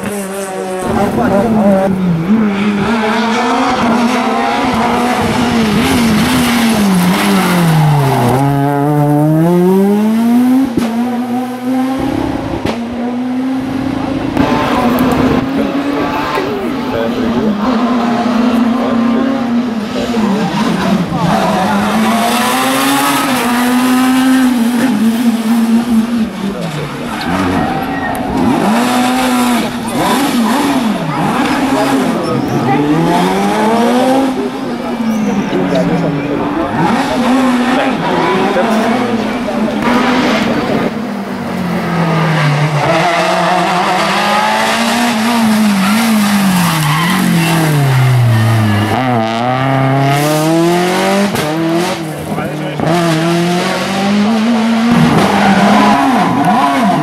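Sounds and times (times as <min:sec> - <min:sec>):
rally car engine at high revs: 0:00.0 - 0:57.0.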